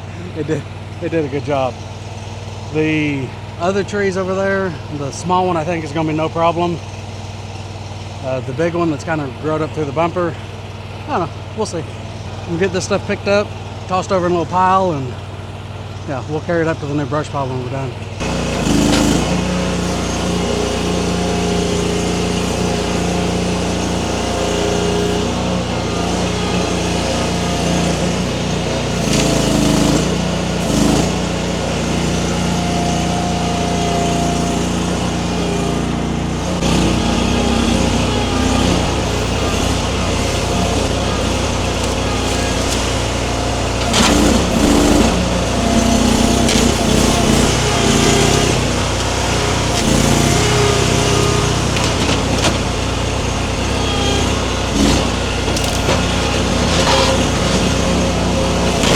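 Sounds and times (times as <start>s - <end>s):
skid steer engine running: 0.0s - 58.9s.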